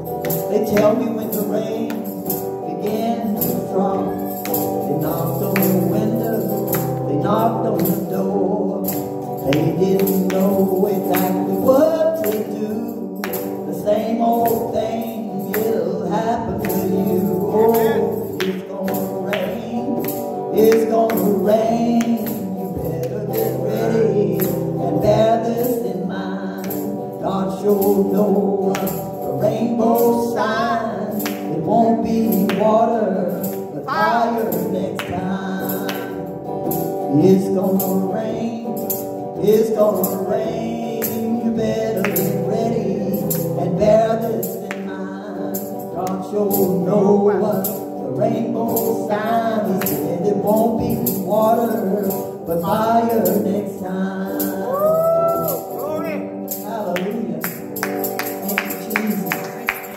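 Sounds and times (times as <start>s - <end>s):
amplified electric guitar: 0.0s - 59.9s.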